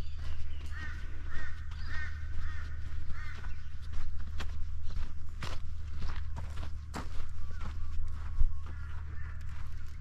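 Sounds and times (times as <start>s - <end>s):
footsteps walking: 0.0s - 10.0s
steady low rumble: 0.0s - 10.0s.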